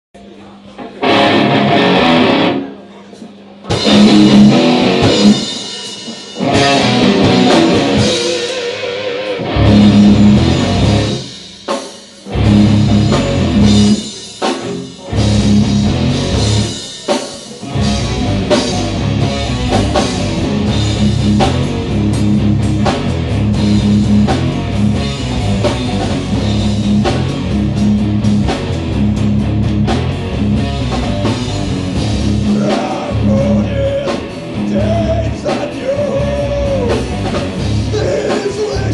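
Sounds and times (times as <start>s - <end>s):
electric guitars: 0.7s - 38.9s
drum kit: 1.0s - 38.9s.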